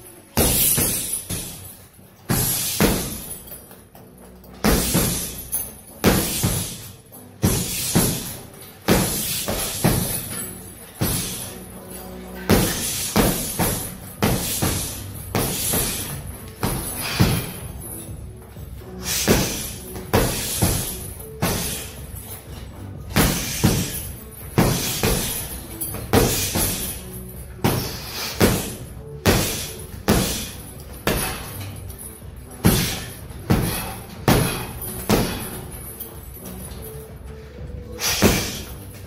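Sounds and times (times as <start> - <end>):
background music: 0.0 - 39.0
punches on heavy bag: 0.4 - 1.7, 2.3 - 3.4, 4.6 - 10.4, 11.0 - 11.5, 12.4 - 18.0, 19.0 - 22.2, 23.0 - 35.9, 38.0 - 38.8.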